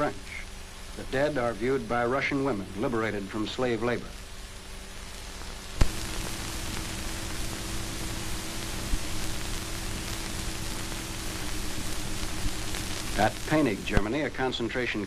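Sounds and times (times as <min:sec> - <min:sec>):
film soundtrack hiss and hum: 0:00.0 - 0:15.0.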